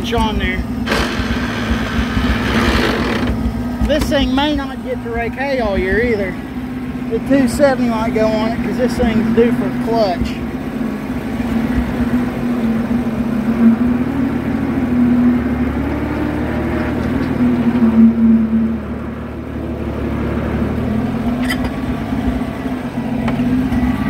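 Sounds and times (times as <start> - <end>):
tractor engine running under load: 0.0 - 18.1, 18.8 - 24.0.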